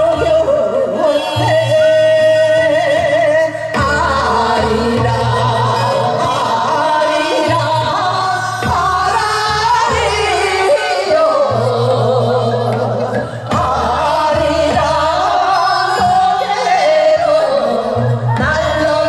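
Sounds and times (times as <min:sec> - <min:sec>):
women singing into microphones: 0:00.0 - 0:19.0
amplified accompaniment with low beat: 0:01.4 - 0:19.0.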